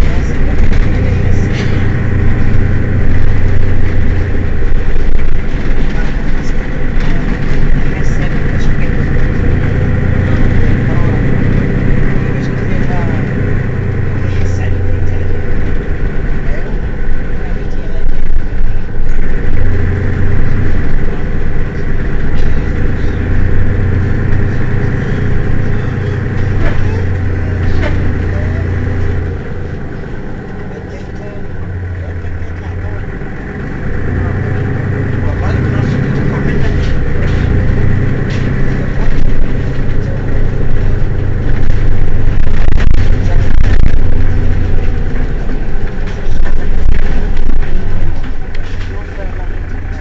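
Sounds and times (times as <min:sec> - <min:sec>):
bus engine humming: 0:00.0 - 0:50.0.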